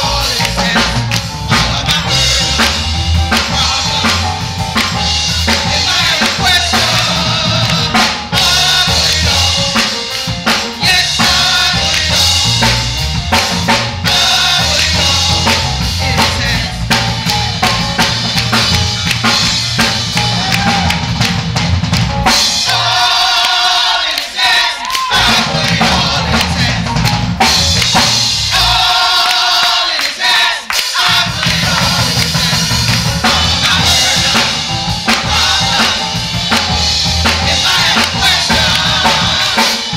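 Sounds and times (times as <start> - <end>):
bass guitar: 0.0 - 23.0, 25.1 - 29.0, 31.1 - 39.9
drum kit: 0.0 - 39.9
gospel band playing: 0.0 - 39.9.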